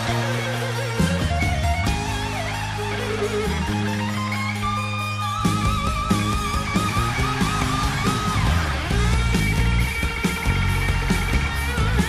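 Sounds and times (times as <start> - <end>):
distorted electric guitar lead: 0.0 - 12.0
heavy metal band playing: 0.0 - 12.0.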